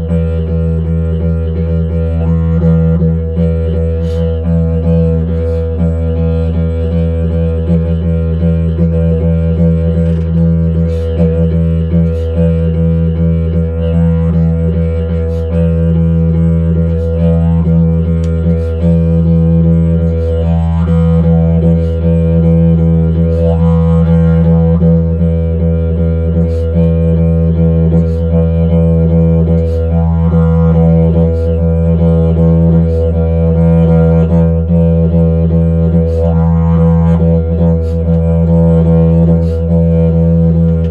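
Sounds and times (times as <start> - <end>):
didgeridoo drone: 0.0 - 40.9.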